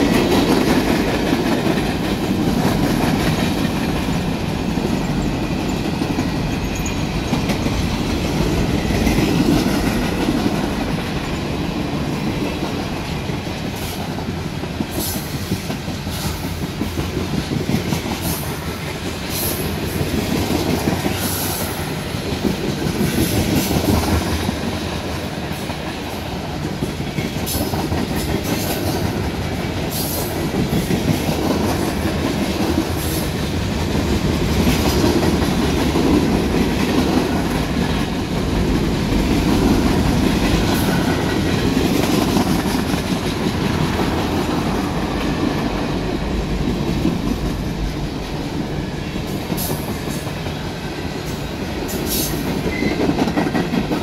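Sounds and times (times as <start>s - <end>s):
freight train rumble: 0.0s - 54.0s.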